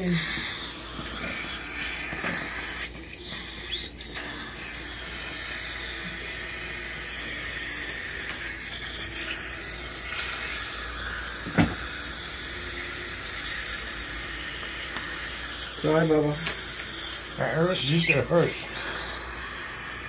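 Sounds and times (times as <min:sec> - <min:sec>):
dental suction hissing: 0:00.0 - 0:20.0.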